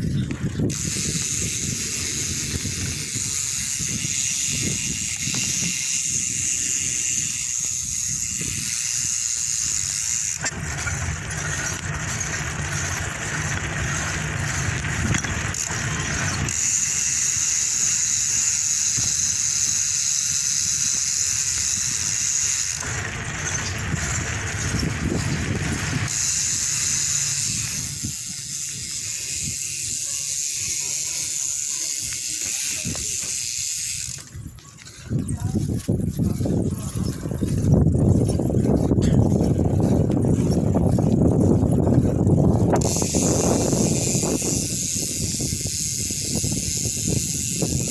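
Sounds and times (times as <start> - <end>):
bicycle freehub clicking: 0.0 - 47.9.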